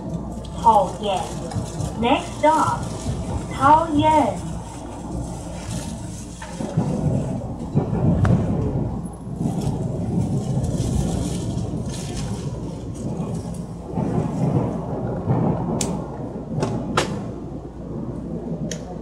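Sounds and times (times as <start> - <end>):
train wheels and motors rumbling: 0.0 - 19.0.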